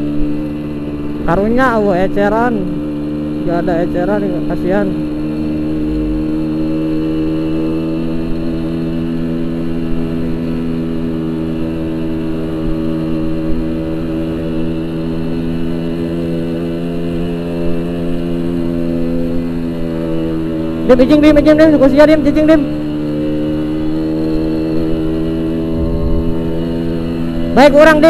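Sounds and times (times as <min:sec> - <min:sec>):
two-stroke motorcycle engine running: 0:00.0 - 0:28.0.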